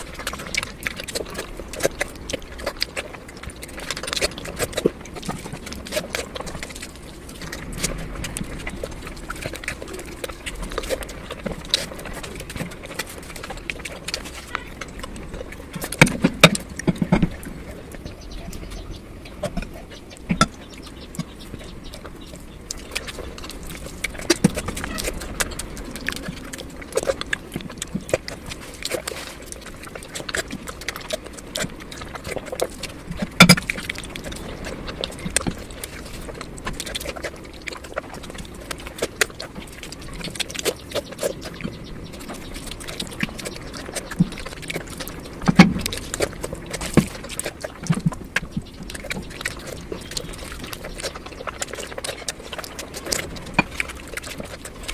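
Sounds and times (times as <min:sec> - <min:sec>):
wet chewing and mouth smacks: 0:00.0 - 0:54.9.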